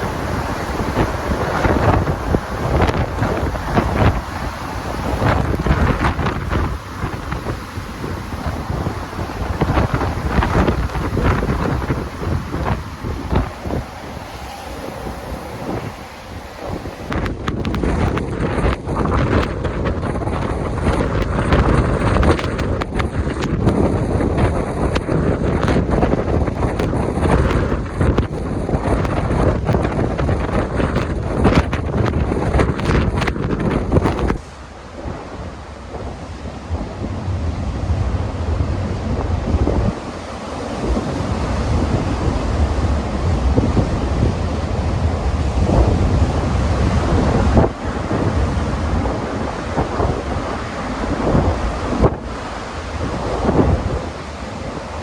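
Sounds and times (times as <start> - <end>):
rough surf rushing on shore: 0.0 - 55.0
waves crashing onshore: 0.0 - 55.0
wind buffeting microphone: 0.0 - 55.0.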